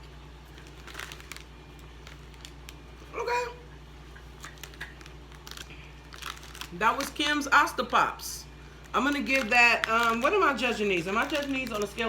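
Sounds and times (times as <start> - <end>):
crunching and chewing cheese puffs: 0.0 - 8.0, 8.7 - 12.0
steady low hum: 0.0 - 12.0.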